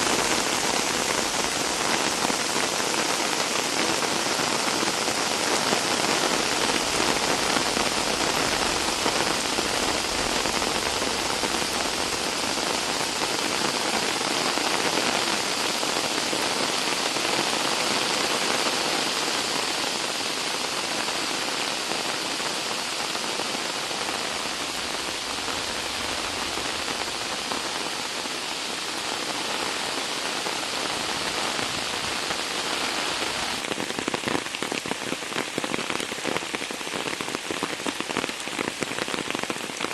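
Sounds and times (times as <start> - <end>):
rain falling: 0.0 - 39.9
uneven rain patter: 0.0 - 39.9.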